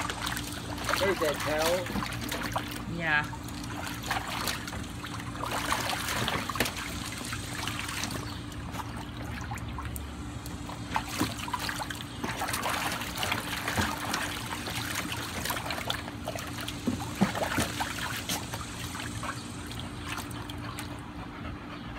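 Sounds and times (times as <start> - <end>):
dog splashing in water: 0.0 - 20.9.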